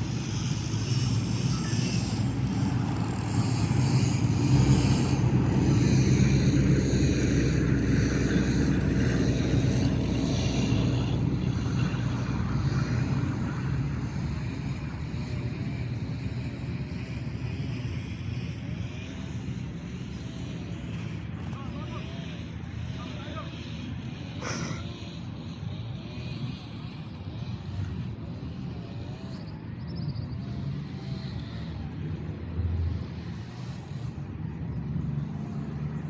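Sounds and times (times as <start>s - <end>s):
passing vehicle engine rumble: 0.0s - 36.0s.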